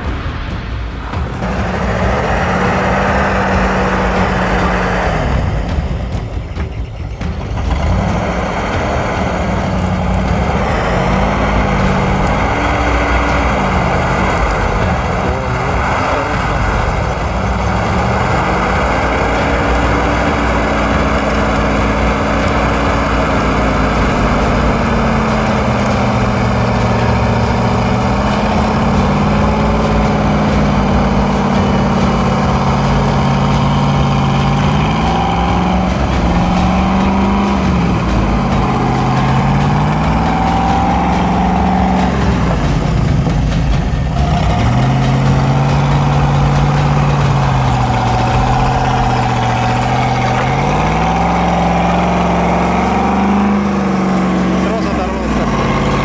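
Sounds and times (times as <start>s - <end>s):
diesel engine revving: 0.0s - 56.0s
steady high whine: 0.0s - 56.0s.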